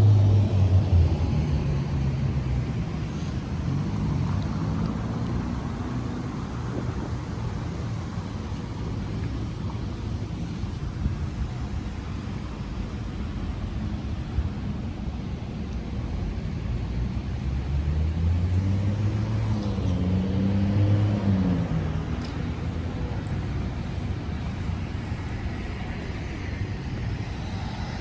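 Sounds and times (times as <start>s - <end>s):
vehicle engine: 0.0s - 10.6s, 11.4s - 28.0s
traffic rumble: 0.0s - 28.0s.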